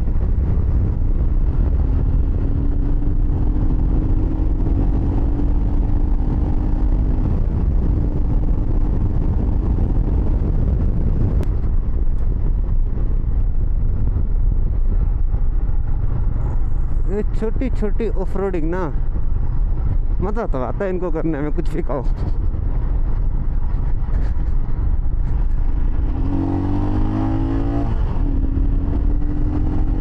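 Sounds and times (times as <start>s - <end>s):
motorcycle engine running: 0.0s - 17.4s, 22.1s - 30.0s
wind buffeting microphone: 0.0s - 30.0s.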